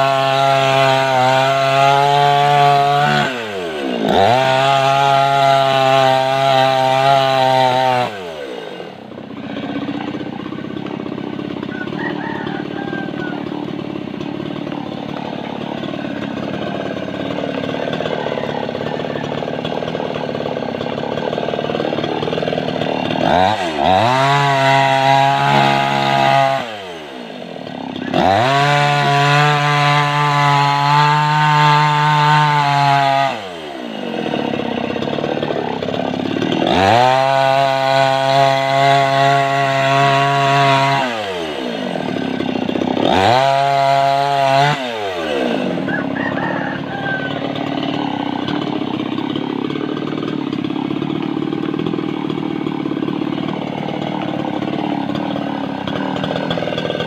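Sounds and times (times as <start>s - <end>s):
mini chainsaw cutting wood: 0.0s - 57.0s.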